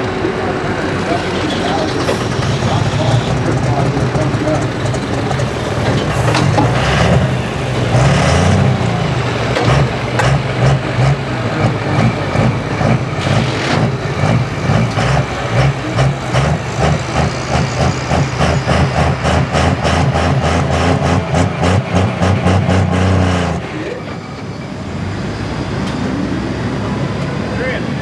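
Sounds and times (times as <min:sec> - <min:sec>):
loud diesel truck engine: 0:00.0 - 0:28.0.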